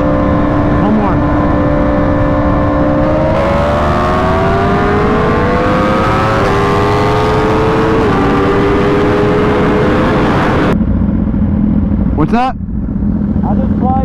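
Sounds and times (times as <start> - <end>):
steady low rumble: 0.0 - 5.7, 7.8 - 14.0
engine accelerating hard: 0.0 - 14.0.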